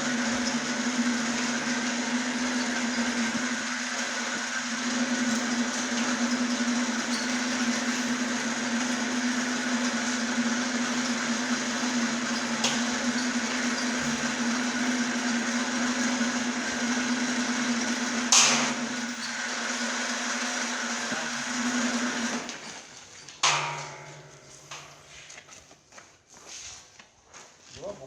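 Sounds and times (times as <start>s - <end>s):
electric motor humming and whirring: 0.0s - 22.9s.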